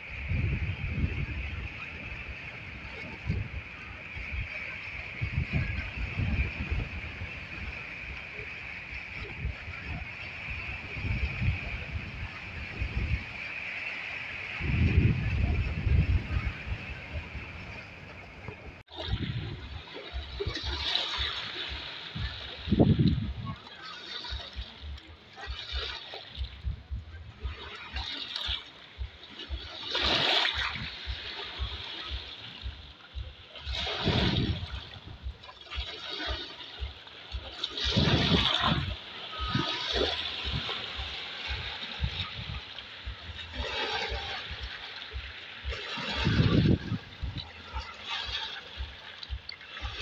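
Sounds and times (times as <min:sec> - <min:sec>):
waves splashing over rocks: 0:00.0 - 0:50.0.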